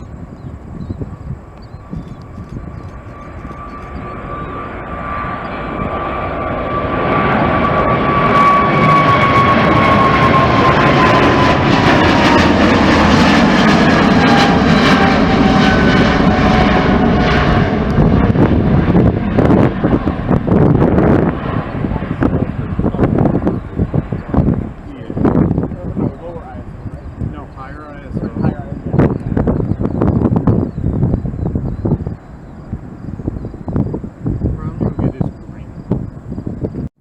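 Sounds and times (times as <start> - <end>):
rushing jet roar: 0.0 - 36.9
jet engine whine: 0.0 - 37.0.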